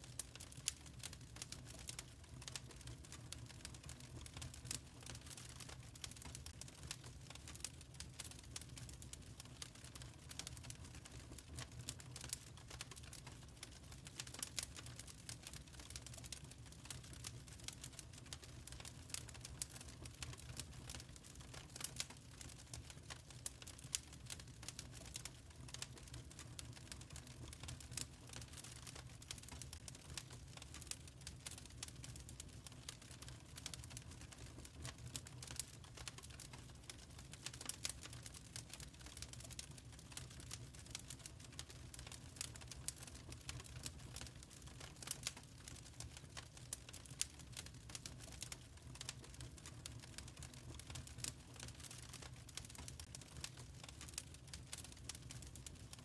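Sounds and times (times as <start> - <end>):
low fire rumble: 0.0 - 56.0
wood fire crackling: 0.0 - 56.0.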